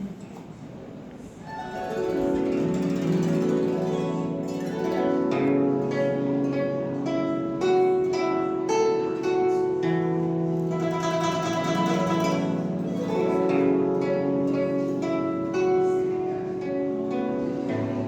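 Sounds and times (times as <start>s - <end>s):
zither plucked melody: 1.4s - 18.0s.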